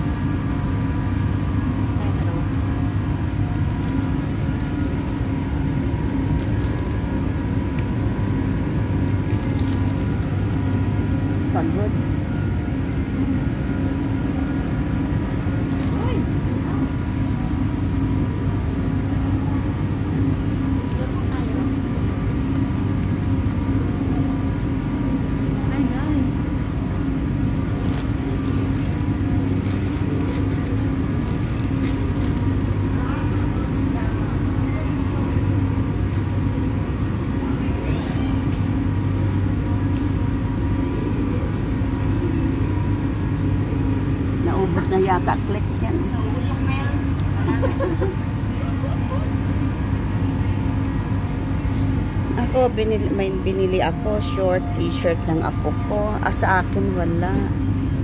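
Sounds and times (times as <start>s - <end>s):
multi-tone motor hum: 0.0s - 58.0s
train low rumble: 0.0s - 58.0s.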